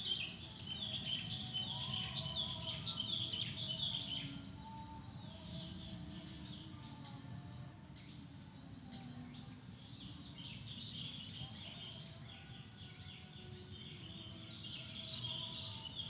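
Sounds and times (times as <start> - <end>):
low background noise: 0.0 - 16.0
small birds chirping: 0.0 - 16.0.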